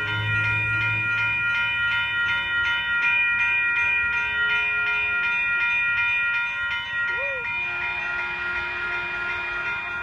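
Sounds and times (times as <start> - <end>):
railroad crossing bell ringing: 0.0 - 10.0.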